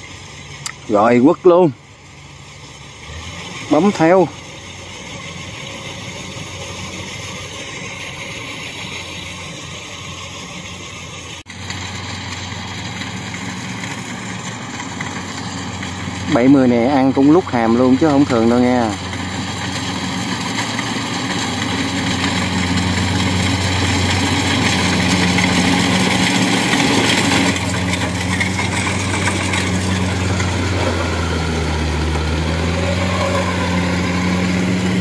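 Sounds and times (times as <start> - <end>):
combine harvester engine running: 0.0 - 35.0.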